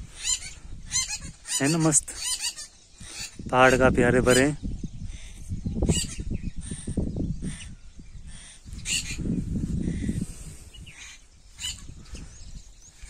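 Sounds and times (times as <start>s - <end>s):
birds chirping: 0.0s - 13.0s
wind buffeting microphone: 0.0s - 13.0s.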